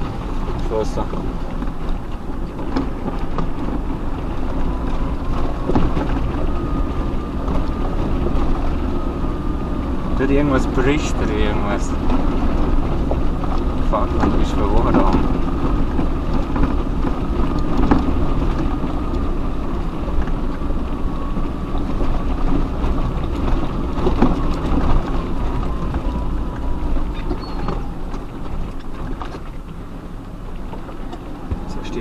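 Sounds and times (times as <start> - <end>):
rocks knocking under car: 0.0 - 29.8, 30.6 - 32.0
tyres crunching over stones: 0.0 - 32.0
vehicle engine running under load: 0.0 - 32.0.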